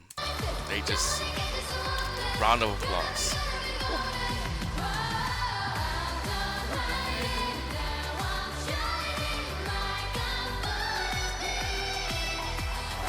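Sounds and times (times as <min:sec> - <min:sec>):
female vocals singing: 0:00.0 - 0:13.0.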